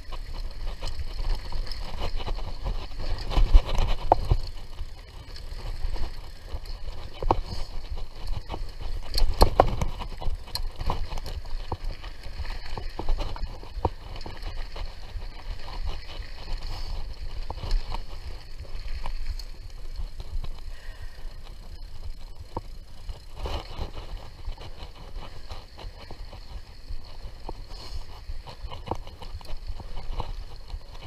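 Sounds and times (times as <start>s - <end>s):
bike clicks and rattles: 0.0s - 31.0s
wind rumble on microphone: 0.0s - 31.0s.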